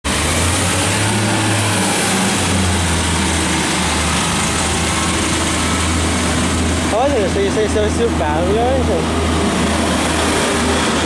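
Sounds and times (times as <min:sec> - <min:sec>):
diesel engine idling: 0:00.1 - 0:11.0.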